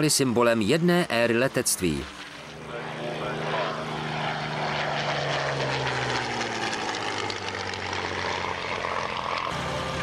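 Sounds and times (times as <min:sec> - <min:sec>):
propeller plane flying past: 0:00.0 - 0:10.0.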